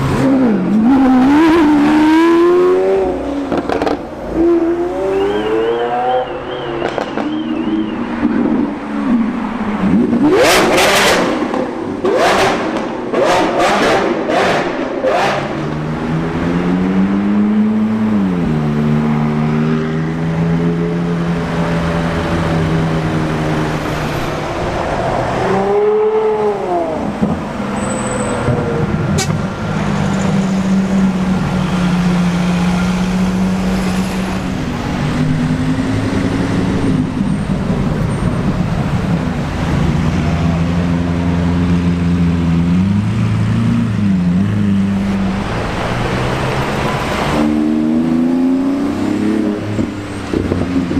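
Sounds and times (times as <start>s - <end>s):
sports car engines revving: 0.0s - 50.9s.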